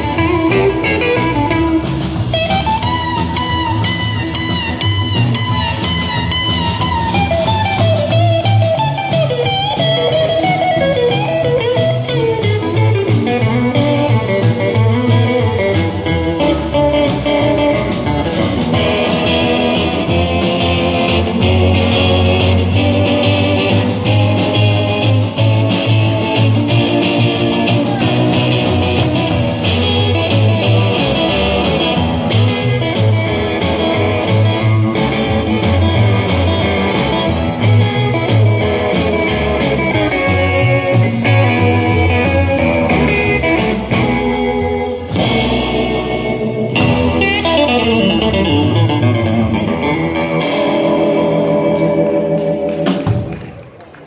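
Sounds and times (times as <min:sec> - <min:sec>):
upright bass: 0:00.0 - 0:53.6
drums: 0:00.0 - 0:54.0
electric guitar lead: 0:00.0 - 0:54.0.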